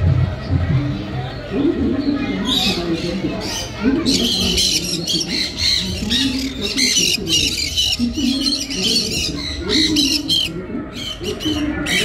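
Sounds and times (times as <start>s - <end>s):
parrots chirping and squawking: 2.2s - 12.0s.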